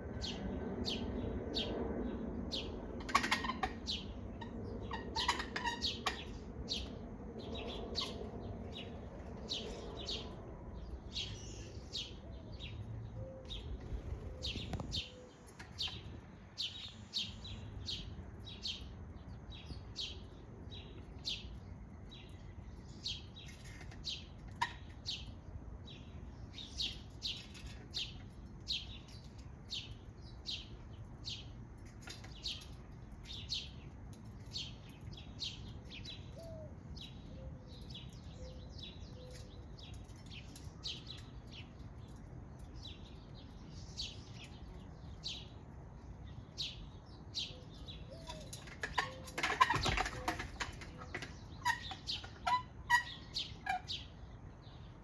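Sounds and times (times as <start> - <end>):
songbird chirping: 2.6 - 55.0.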